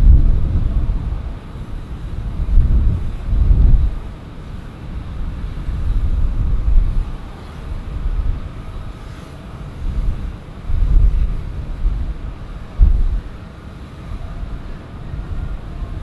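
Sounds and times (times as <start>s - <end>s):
jet engines rumbling and whining: 0.0s - 16.0s
wind buffeting microphone: 0.0s - 16.0s.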